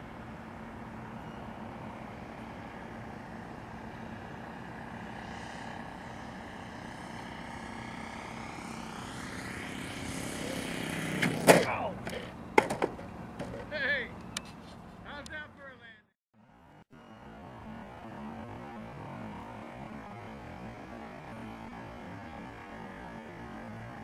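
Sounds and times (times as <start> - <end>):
model airplane motor and propeller: 1.0 - 15.5, 17.2 - 24.0.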